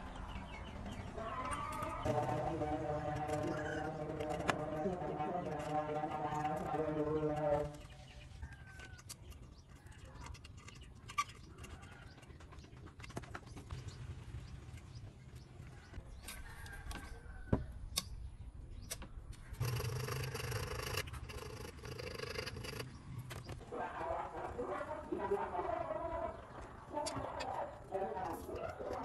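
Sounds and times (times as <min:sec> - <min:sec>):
bird calls: 0:00.0 - 0:29.0.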